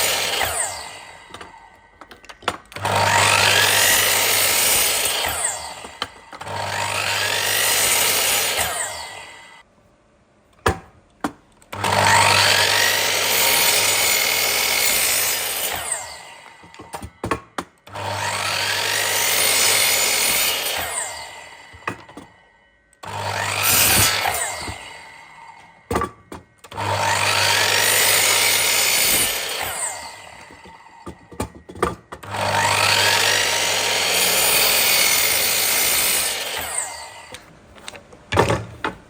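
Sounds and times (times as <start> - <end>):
electric power saw cutting wood: 0.0 - 9.6, 11.7 - 38.0.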